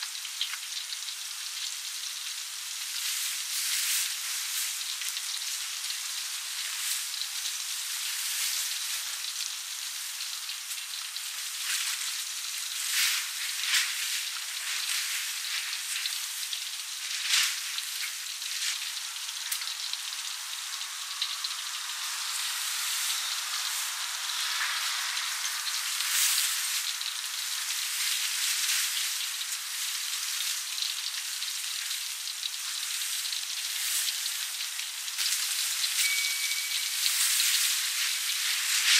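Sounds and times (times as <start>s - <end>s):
oil popping and crackling: 0.0s - 36.1s, 36.8s - 38.9s
batter deep-frying in hot oil: 0.0s - 38.9s.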